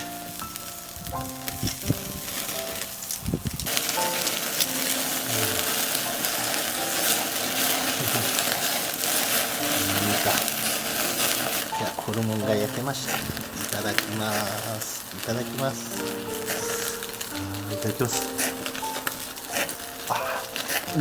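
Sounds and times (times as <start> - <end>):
background music: 0.0 - 21.0
meat sizzling on grill: 0.0 - 21.0.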